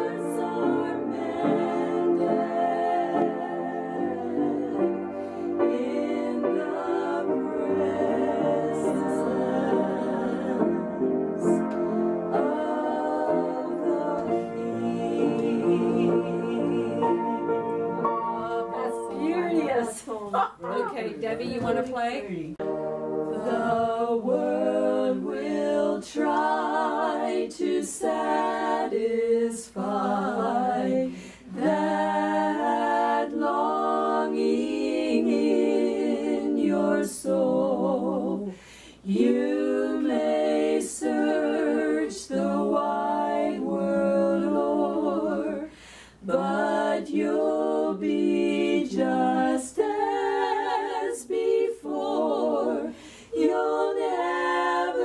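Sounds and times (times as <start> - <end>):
women singing a cappella gospel: 0.0 - 22.1, 23.2 - 55.0.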